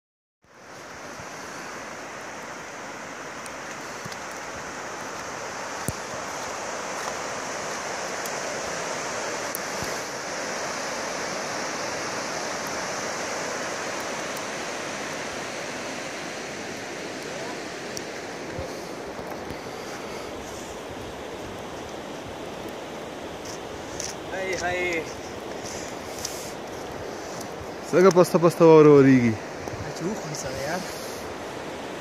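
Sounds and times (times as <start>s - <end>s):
river rushing over rocks: 0.5s - 32.0s.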